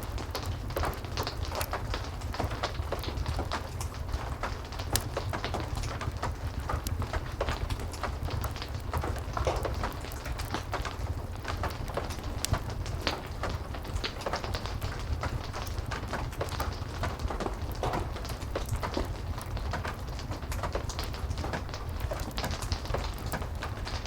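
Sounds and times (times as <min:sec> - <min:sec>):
fireplace crackling: 0:00.0 - 0:24.0
heavy rain: 0:00.0 - 0:24.0.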